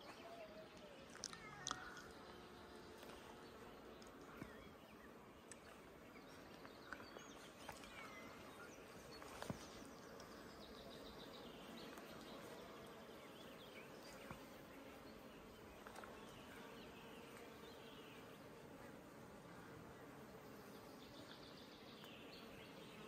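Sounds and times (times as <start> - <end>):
small birds chirping and trilling: 0.0 - 18.8, 19.4 - 23.0.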